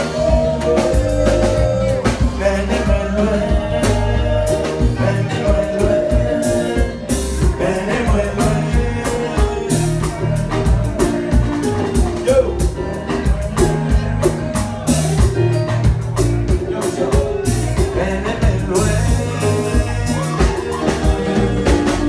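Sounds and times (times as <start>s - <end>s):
bass line: 0.0s - 22.0s
guitars playing: 0.0s - 22.0s
man singing: 0.0s - 22.0s
steady beat: 0.0s - 22.0s.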